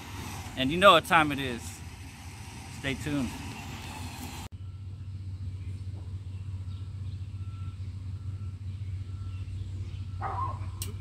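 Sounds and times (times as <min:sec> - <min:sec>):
truck engine idling: 0:00.0 - 0:10.8.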